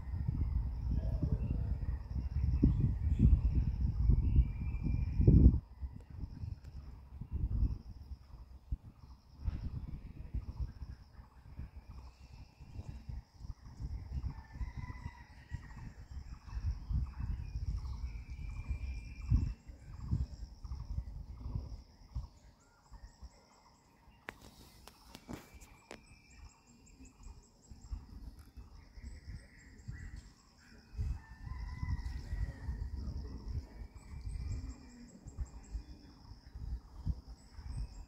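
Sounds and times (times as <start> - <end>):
wind gusting over microphone: 0.0 - 23.3, 27.1 - 38.0.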